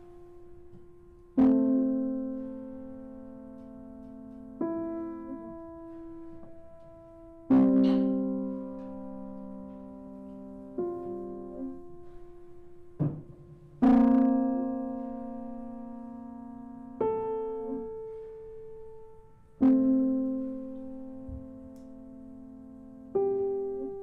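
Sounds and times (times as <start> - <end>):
piano chords ringing: 0.0 - 24.0.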